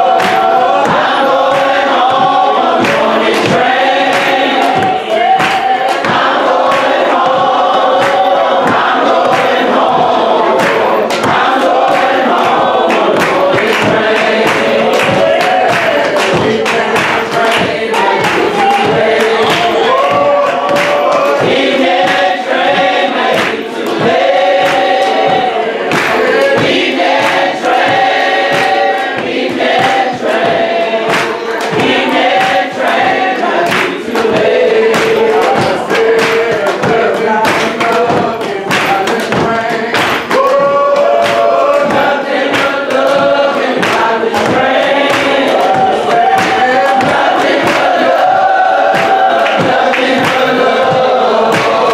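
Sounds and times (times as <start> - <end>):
sharp percussive hits: 0.0 - 51.9
voices singing gospel: 0.0 - 51.9.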